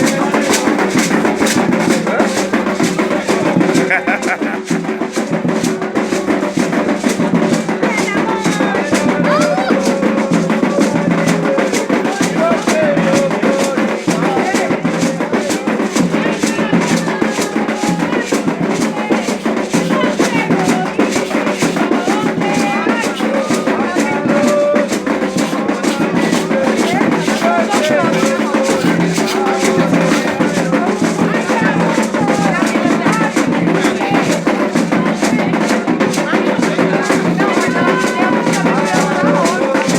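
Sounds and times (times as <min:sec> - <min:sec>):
group singing: 0:00.0 - 0:39.9
hand drums beating fast rhythm: 0:00.0 - 0:39.9
shaken rattle: 0:00.0 - 0:39.9.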